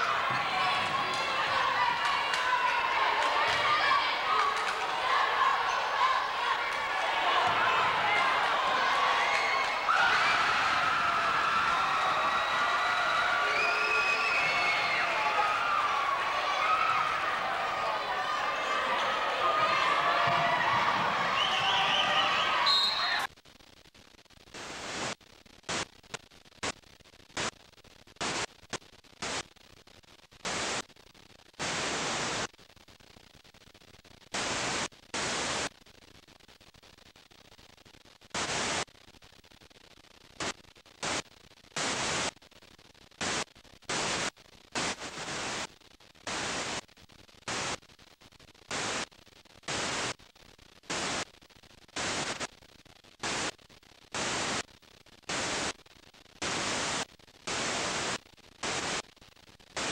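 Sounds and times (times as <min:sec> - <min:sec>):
faint steady hiss: 0:00.0 - 0:59.9
hissing white-noise static bursts: 0:00.0 - 0:59.9.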